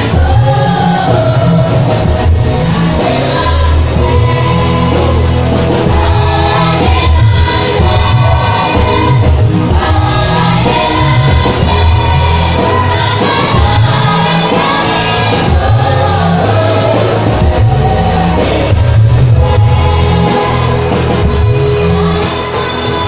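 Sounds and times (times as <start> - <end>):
bass accompaniment: 0.0 - 23.0
choir singing into microphones: 0.0 - 23.0.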